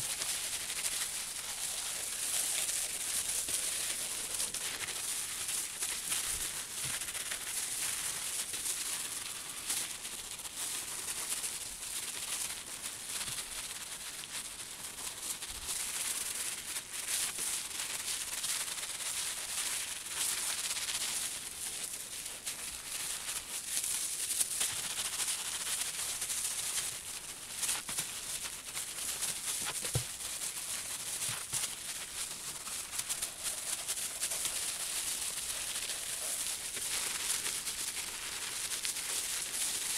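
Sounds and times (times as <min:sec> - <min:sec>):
scratchy crackly rubbing on bubble wrap: 0:00.0 - 0:39.9.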